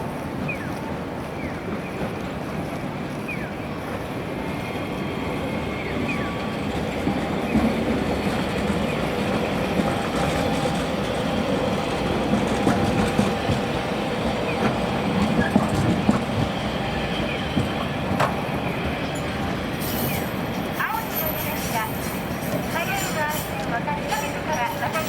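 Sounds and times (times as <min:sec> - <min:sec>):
tram wheels rolling on rail: 0:00.0 - 0:25.0.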